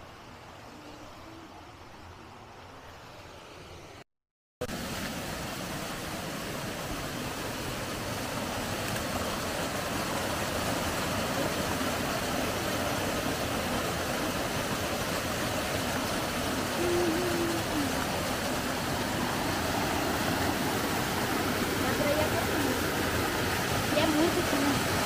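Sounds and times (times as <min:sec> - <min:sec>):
waterfall rushing over rocks: 0:04.6 - 0:25.0.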